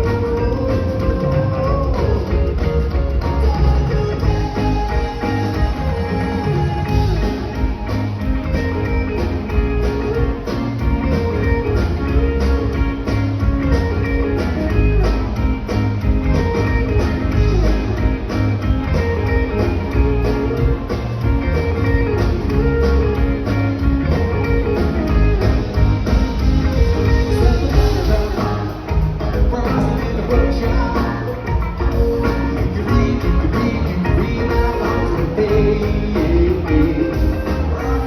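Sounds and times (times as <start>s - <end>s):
bass: 0.0s - 38.0s
drums keeping a beat: 0.0s - 38.0s
guitar line: 0.0s - 38.0s.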